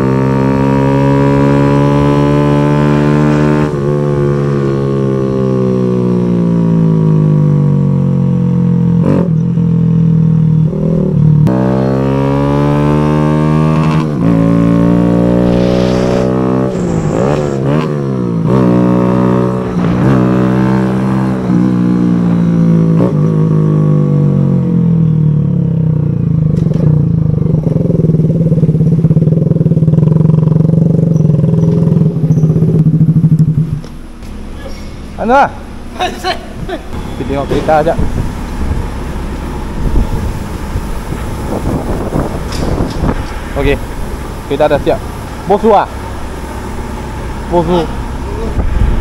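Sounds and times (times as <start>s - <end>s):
motorcycle engine revving: 0.0s - 36.1s, 36.9s - 49.0s.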